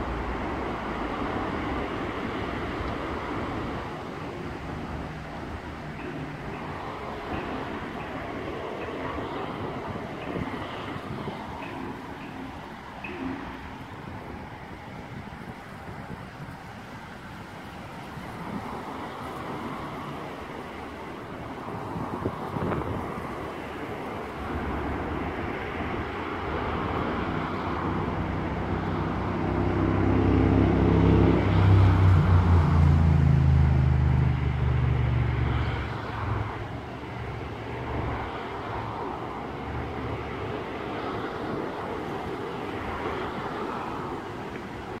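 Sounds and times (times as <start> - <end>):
diesel locomotive engine humming: 0.0 - 45.0.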